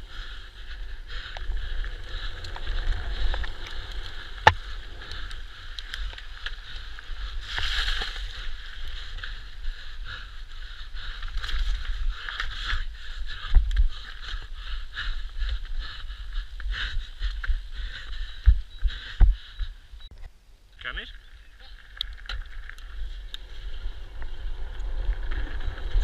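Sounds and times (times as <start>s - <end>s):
wind buffeting: 0.0s - 19.7s, 22.4s - 26.0s.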